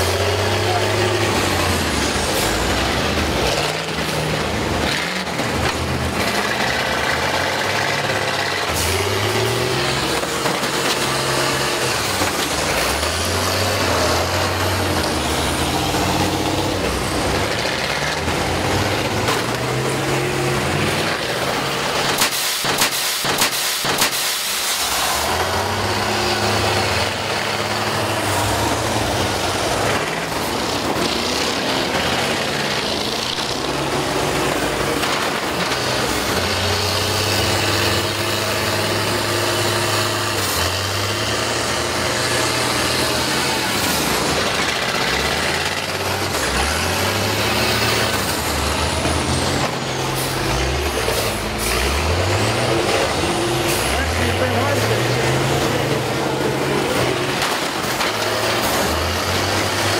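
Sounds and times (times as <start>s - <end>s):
bus engines revving: 0.0s - 59.9s
vehicles crashing: 0.0s - 59.9s.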